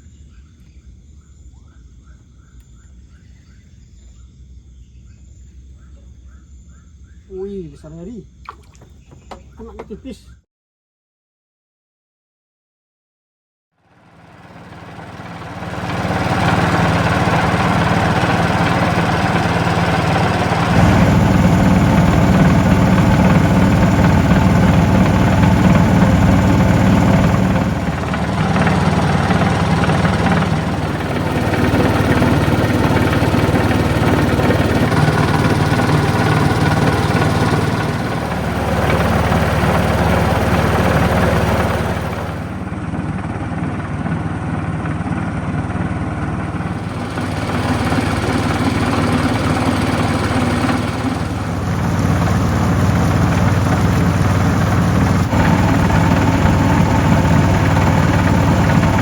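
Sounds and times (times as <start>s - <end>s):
small engine running: 4.1s - 10.4s, 13.8s - 59.0s.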